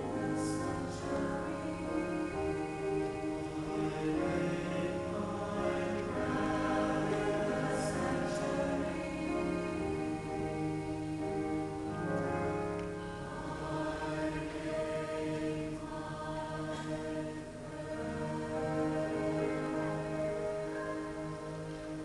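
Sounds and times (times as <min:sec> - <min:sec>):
choir singing in harmony: 0:00.0 - 0:22.0.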